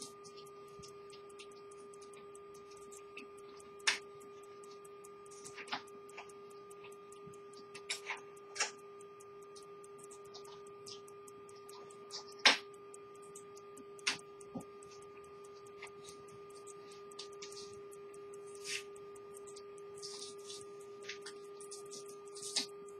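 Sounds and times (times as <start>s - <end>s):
irregular clicks: 0.0s - 22.9s
pocket watch ticking: 0.0s - 22.9s
steady hum: 0.0s - 22.9s.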